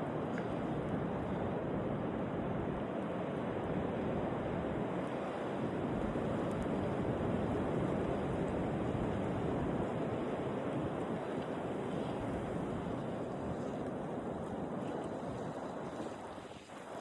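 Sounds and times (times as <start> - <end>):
blizzard wind blowing: 0.0 - 17.0
wind buffeting microphone: 0.0 - 17.0.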